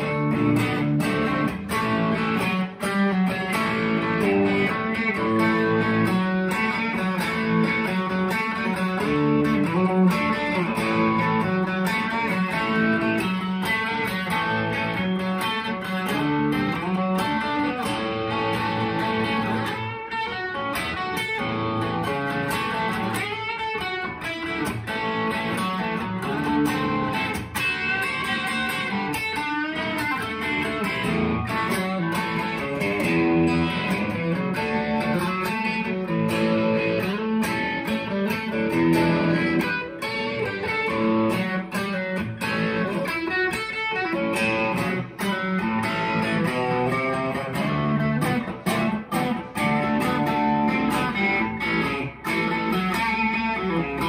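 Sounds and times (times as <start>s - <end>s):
electric guitar playing: 0.0s - 54.0s.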